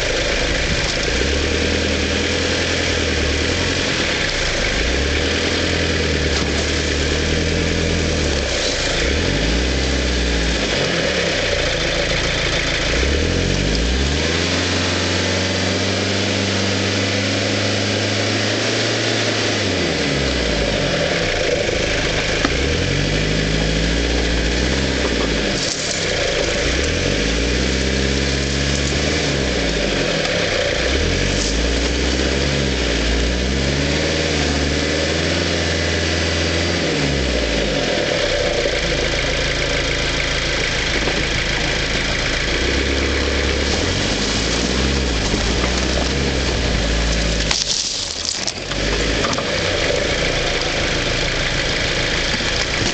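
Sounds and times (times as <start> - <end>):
engine revving under load: 0.0 - 52.9.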